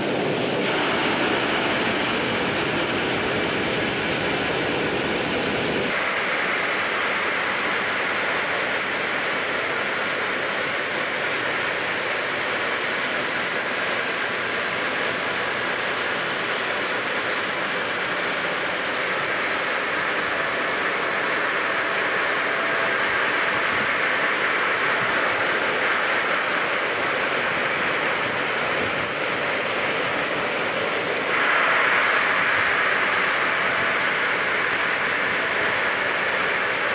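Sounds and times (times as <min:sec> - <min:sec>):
water spray rushing: 0:00.0 - 0:11.4, 0:12.2 - 0:36.9.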